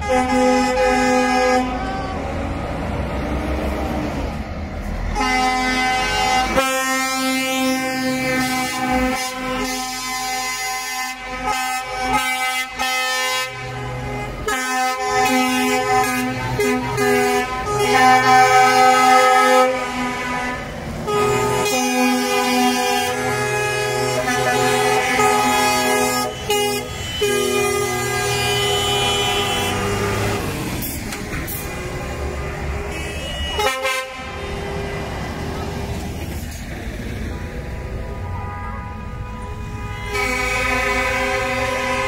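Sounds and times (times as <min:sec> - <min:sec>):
truck air horns blasting: 0:00.0 - 0:02.2, 0:05.0 - 0:35.4, 0:38.0 - 0:42.0
heavy trucks driving past: 0:00.0 - 0:42.0.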